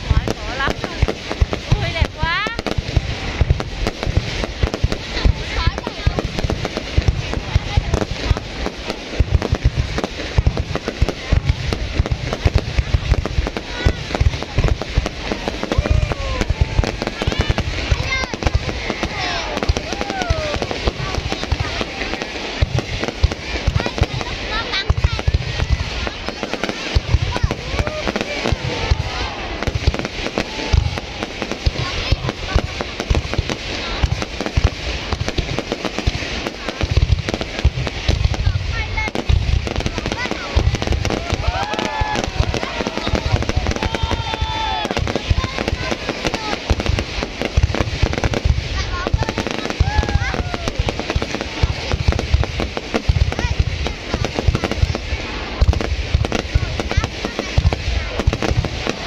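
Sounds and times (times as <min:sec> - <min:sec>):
fireworks bangs and pops: 0:00.0 - 0:59.0.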